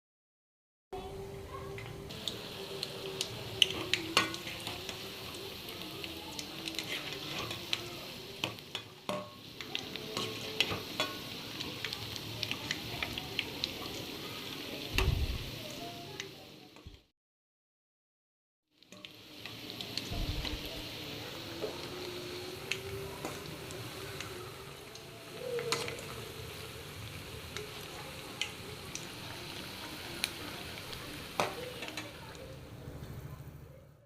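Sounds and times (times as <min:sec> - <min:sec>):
food deep-frying in oil: 0:01.0 - 0:17.1, 0:18.7 - 0:33.8
utensil stirring in pan: 0:01.7 - 0:16.3, 0:18.8 - 0:32.8.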